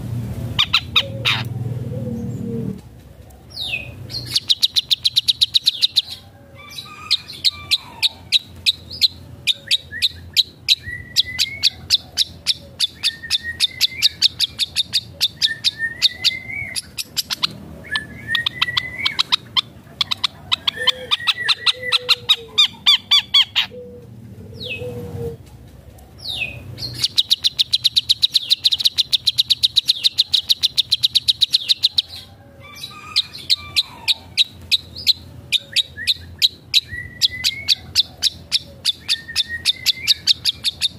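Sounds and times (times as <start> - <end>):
shrike singing: 3.6 - 24.0, 26.2 - 40.9.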